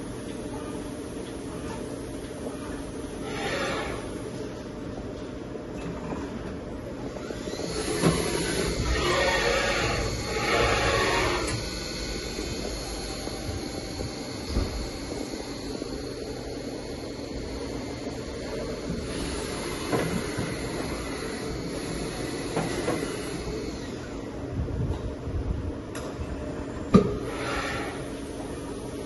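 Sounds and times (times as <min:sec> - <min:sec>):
machine spindle humming: 0:00.0 - 0:24.5.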